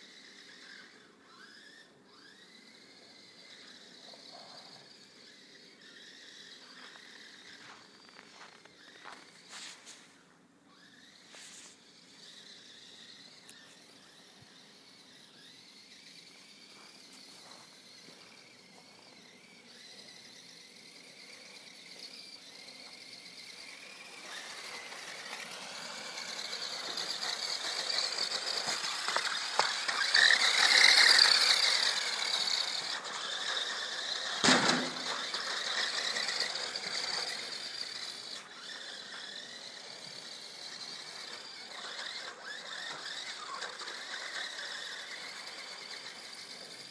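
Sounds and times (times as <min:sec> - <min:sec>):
toy car motor whining: 0:00.0 - 0:46.9.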